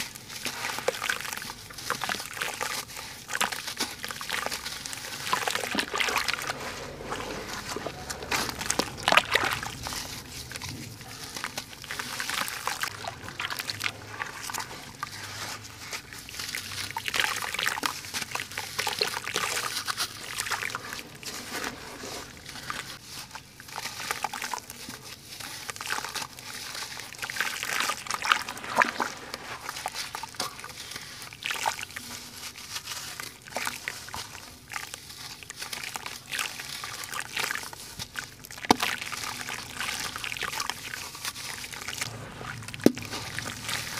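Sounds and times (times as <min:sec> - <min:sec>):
water sloshing and trickling: 0:00.0 - 0:43.9
wet cement lumps crumbling: 0:00.0 - 0:43.9.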